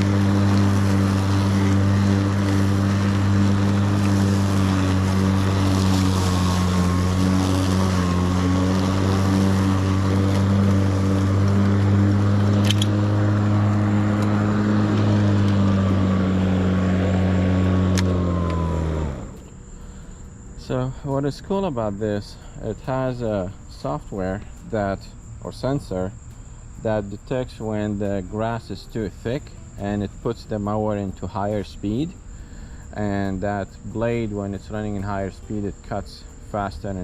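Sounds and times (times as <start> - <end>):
electric lawn mower humming: 0.0 - 37.0.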